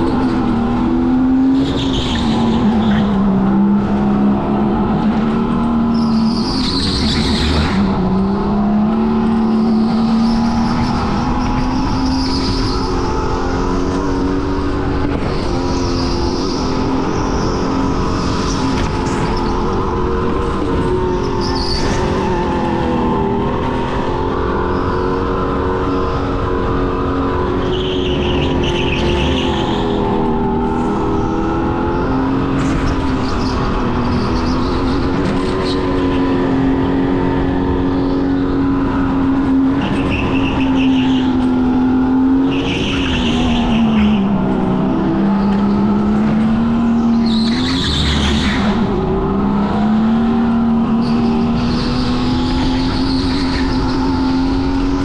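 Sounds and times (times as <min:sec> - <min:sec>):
go-kart motor droning: 0:00.0 - 0:55.0
tires squealing: 0:00.0 - 0:55.0.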